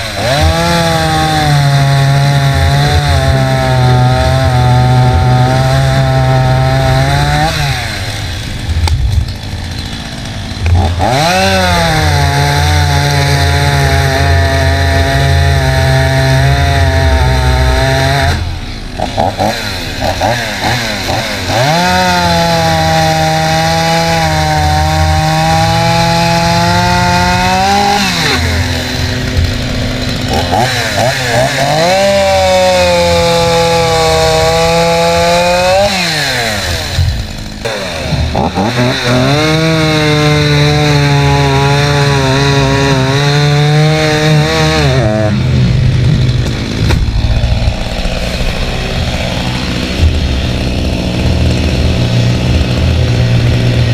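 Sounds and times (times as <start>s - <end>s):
chainsaw revving and idling: 0.0s - 53.9s.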